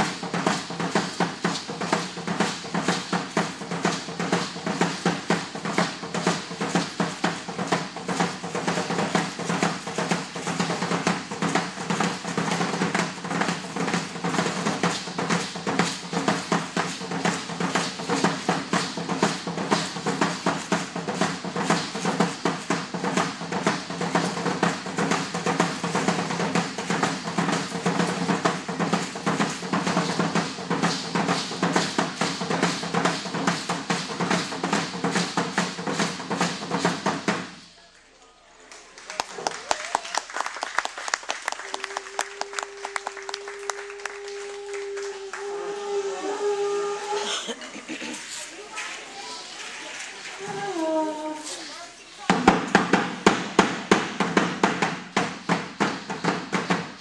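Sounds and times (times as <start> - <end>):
fast drumming: 0.0 - 37.8, 39.2 - 48.3, 52.2 - 57.0.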